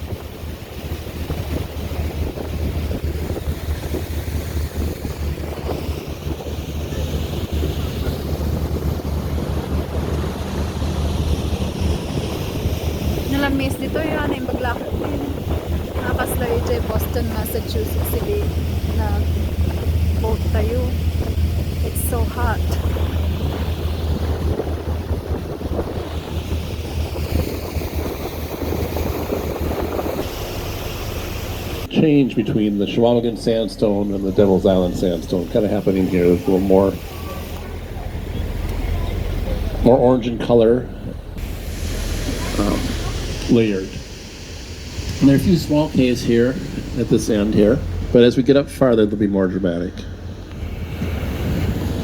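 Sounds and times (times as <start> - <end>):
boat engine drone: 0.0 - 52.0
water rushing past hull: 0.0 - 52.0
wind buffeting microphone: 0.0 - 52.0.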